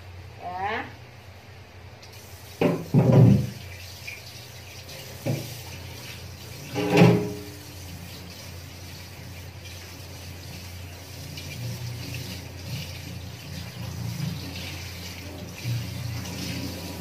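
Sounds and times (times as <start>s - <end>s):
kitchen tap running: 2.0s - 17.0s
utensils being washed: 2.2s - 17.0s.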